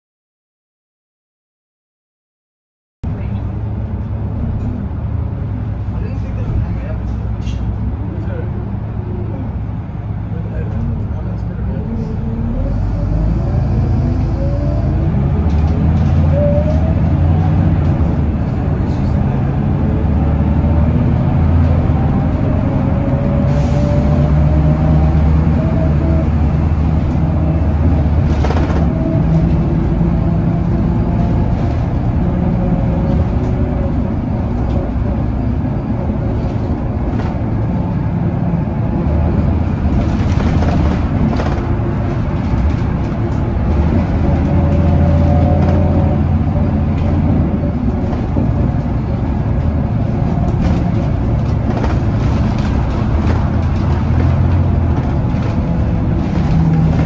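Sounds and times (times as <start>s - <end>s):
bus diesel engine droning: 3.1s - 57.0s.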